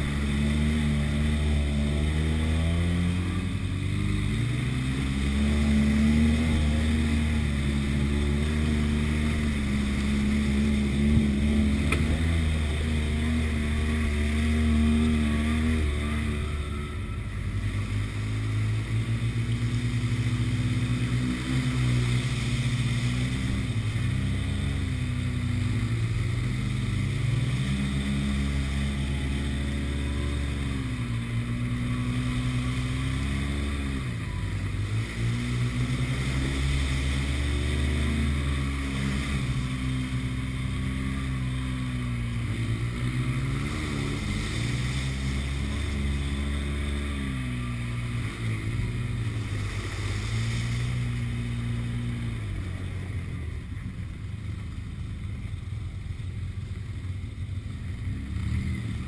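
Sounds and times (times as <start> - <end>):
utv engine revving: 0.0 - 59.0.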